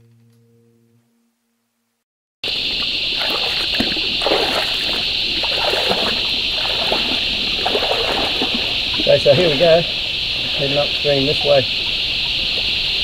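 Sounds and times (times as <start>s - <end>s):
cicada chorus: 2.4s - 13.0s
water splashing from wading: 2.4s - 13.0s.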